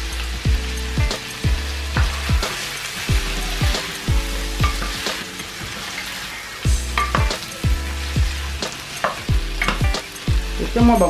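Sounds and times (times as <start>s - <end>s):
music with deep bass and kick drum: 0.0s - 5.3s, 6.7s - 11.0s
vegetables sizzling in oil: 0.0s - 11.0s.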